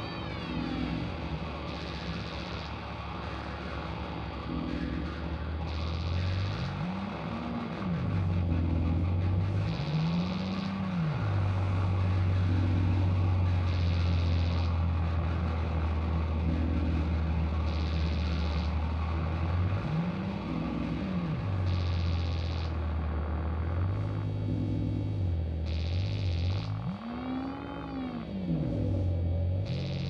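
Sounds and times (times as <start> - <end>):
low droning electronic tone: 0.0 - 30.0.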